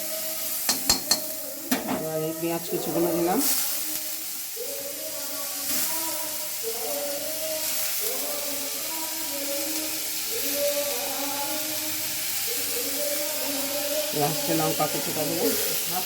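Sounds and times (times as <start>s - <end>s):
food sizzling in oil in a pan: 0.0s - 16.0s.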